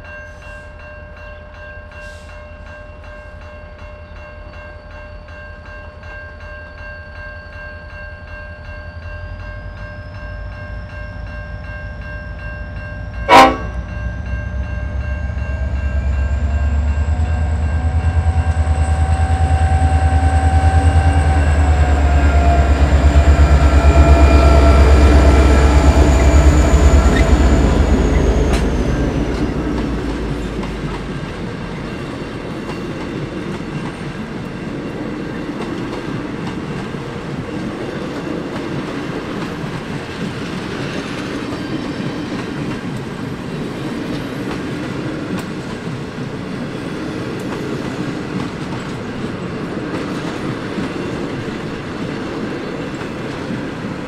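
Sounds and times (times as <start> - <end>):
diesel locomotive engines: 0.0 - 54.0
train carriages rolling on rails: 9.4 - 54.0.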